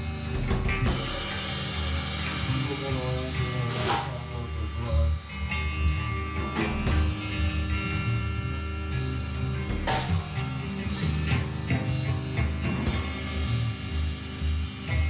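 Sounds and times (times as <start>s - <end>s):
drum kit hits: 0.0s - 5.1s, 5.9s - 8.3s, 8.9s - 15.0s
held guitar tones: 0.0s - 15.0s
sustained low bass notes: 0.0s - 15.0s.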